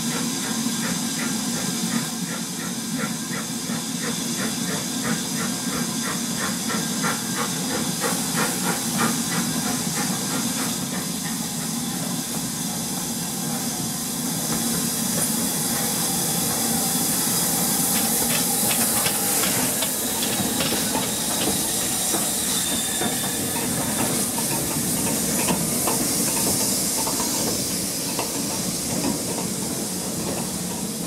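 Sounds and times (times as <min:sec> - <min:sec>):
steam hiss: 0:00.0 - 0:31.0
train wheels clicking over rail joints: 0:00.1 - 0:12.4, 0:14.4 - 0:31.0.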